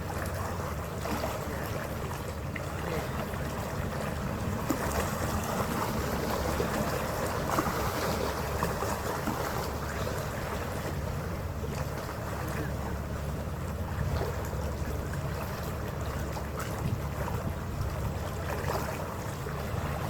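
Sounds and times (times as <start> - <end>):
ferry engine rumble: 0.0 - 20.0
water rushing along hull: 0.0 - 20.0.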